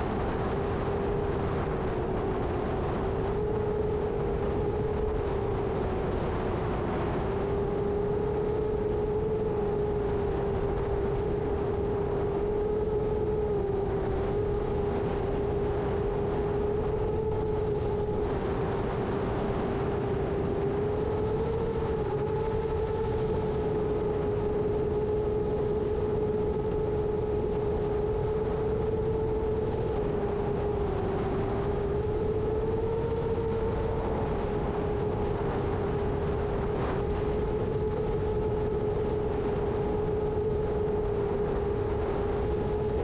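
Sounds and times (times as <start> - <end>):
wind on microphone: 0.0 - 43.0.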